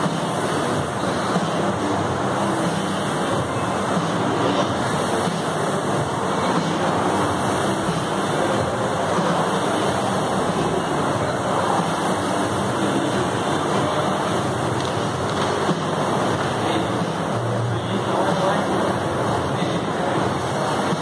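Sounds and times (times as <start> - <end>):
rowing machine fan rushing: 0.0 - 21.0.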